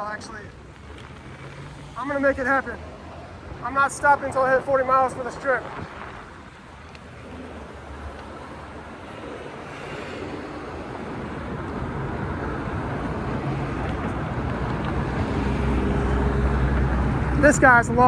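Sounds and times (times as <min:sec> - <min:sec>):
road and tyre noise: 0:00.0 - 0:18.0
wind rushing over microphone: 0:00.5 - 0:18.0.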